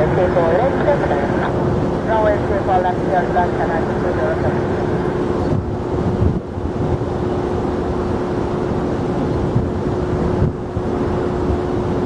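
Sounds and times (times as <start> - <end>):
constant hum: 0.0 - 12.0
jet engine rumble: 0.0 - 12.0
wind buffeting microphone: 0.0 - 12.0.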